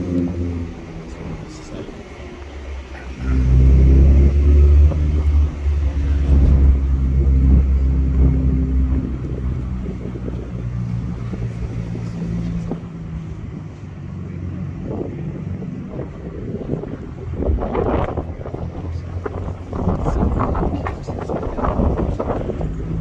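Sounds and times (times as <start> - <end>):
car engine hum: 0.0 - 23.0
road noise: 0.0 - 23.0.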